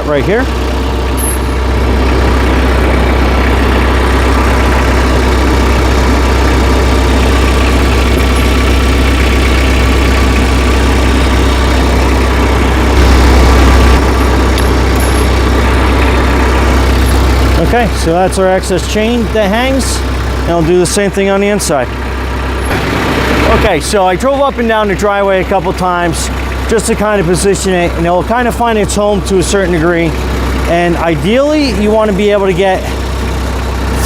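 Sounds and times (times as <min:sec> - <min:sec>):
tractor engine idling: 0:00.0 - 0:34.0.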